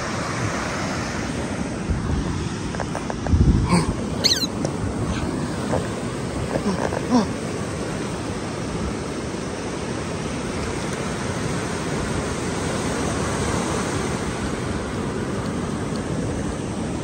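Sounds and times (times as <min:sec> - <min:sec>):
ocean surf on beach: 0:00.0 - 0:17.0.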